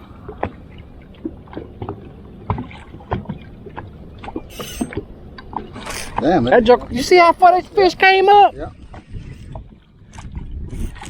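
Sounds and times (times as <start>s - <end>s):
low rumble of wind: 0.0s - 11.0s
water around boat: 0.0s - 11.0s.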